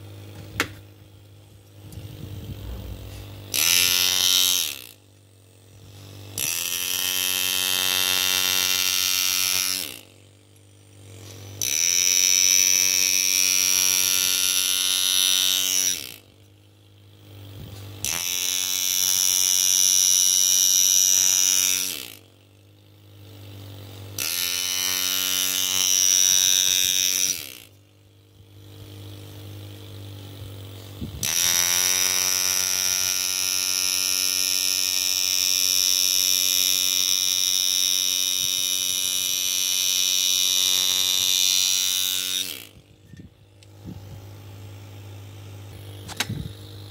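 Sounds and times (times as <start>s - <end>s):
air engraver buzzing: 0.0s - 46.9s.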